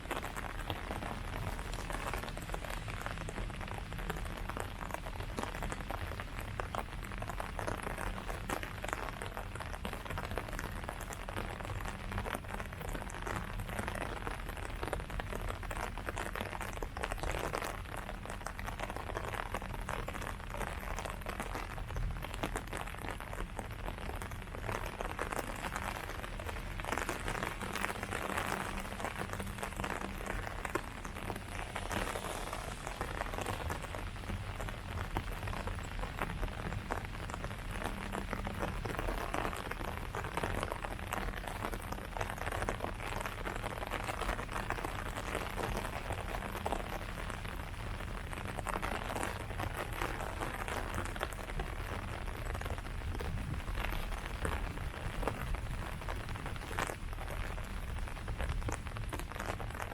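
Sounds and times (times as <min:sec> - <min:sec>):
rain pattering on leaves: 0:00.0 - 0:59.9.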